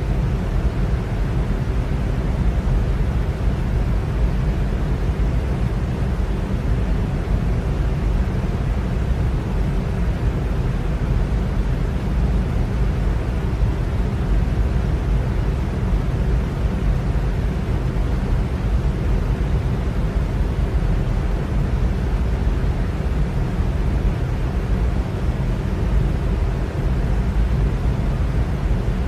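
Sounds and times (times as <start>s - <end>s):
electric fan humming: 0.0s - 29.0s.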